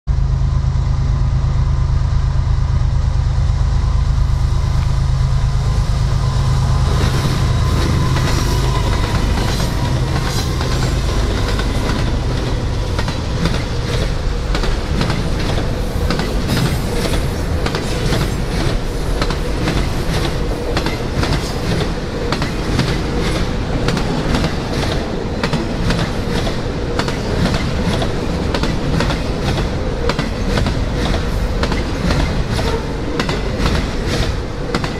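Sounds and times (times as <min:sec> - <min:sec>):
freight train rumble: 0:00.1 - 0:34.9
wheels clickety-clack over rail joints: 0:06.9 - 0:34.9.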